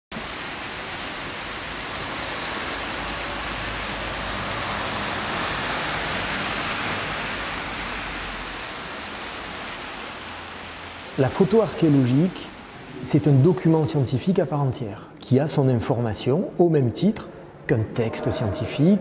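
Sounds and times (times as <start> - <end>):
steady rushing outdoor noise: 0.1 - 15.6.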